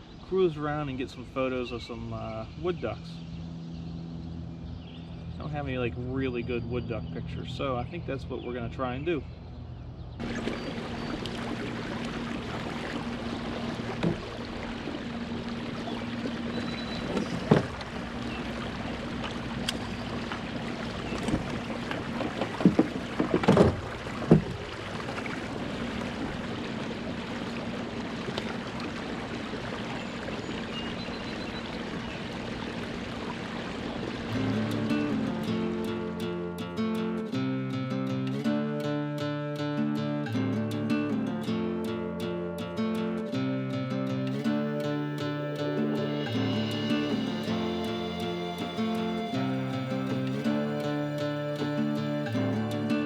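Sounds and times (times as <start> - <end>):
water noise: 10.2 - 53.0.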